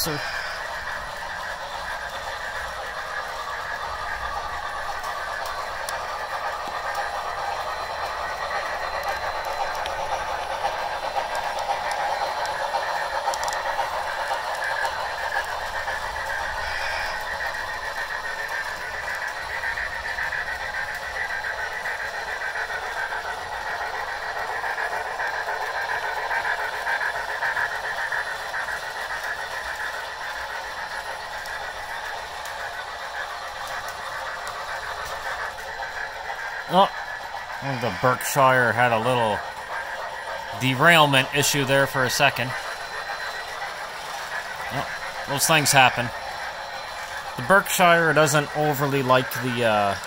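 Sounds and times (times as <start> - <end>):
model steam engine sounds from speakers: 0.0 - 50.0
model train wheels rolling on track: 0.0 - 50.0.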